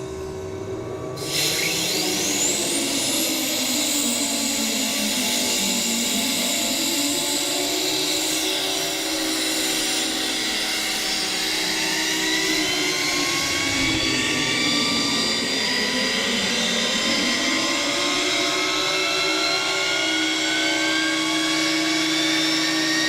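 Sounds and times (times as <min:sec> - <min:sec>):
jet engines running: 0:01.2 - 0:23.0.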